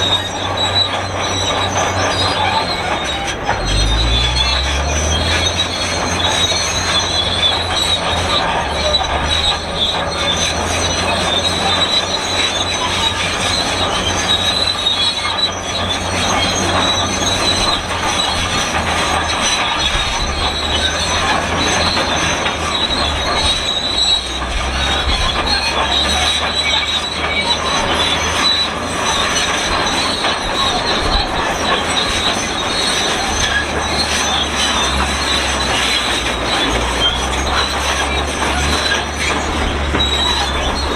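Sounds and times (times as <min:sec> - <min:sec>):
bulldozer squeaking and screeching: 0:00.0 - 0:40.9
diesel engine drone: 0:00.0 - 0:40.9.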